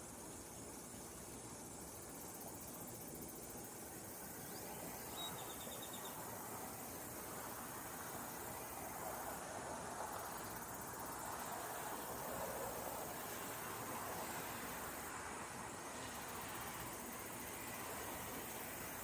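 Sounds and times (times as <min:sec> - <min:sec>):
faint outdoor ambience hiss: 0:00.0 - 0:19.0.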